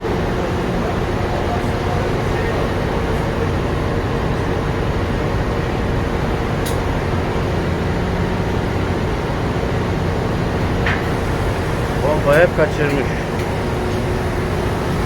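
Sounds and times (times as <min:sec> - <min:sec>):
engine room machinery noise: 0:00.0 - 0:15.0.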